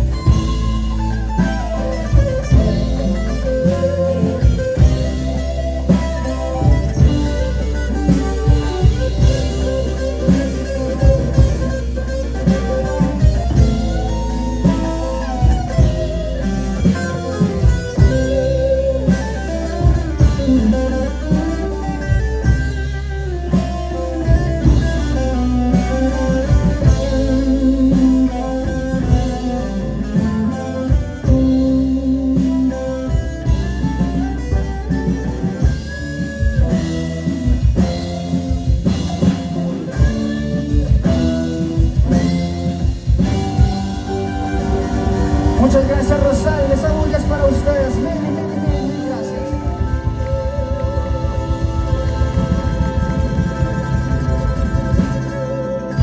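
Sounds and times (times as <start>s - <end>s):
drum kit: 0.0s - 56.0s
lead guitar: 0.0s - 56.0s.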